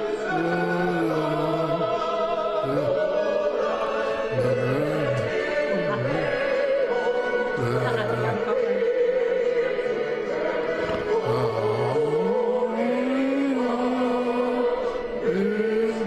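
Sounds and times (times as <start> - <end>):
operatic singing with vibrato: 0.0 - 16.0.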